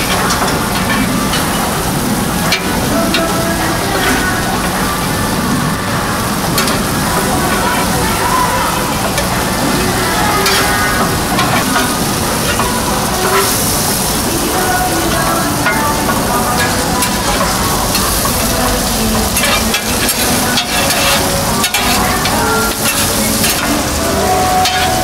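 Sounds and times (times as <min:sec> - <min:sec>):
meat sizzling on a griddle: 0:00.0 - 0:25.0.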